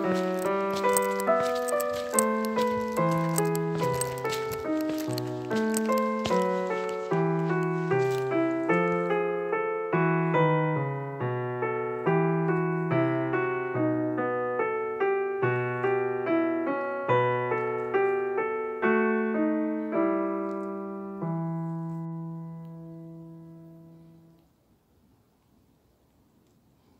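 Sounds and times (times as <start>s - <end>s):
gentle piano music: 0.0s - 24.4s.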